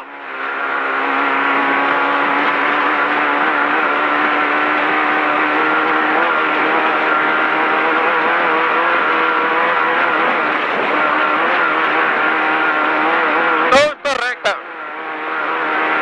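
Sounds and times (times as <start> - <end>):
race vehicle engine at high revs: 0.0 - 16.0
road and wind noise: 0.0 - 16.0.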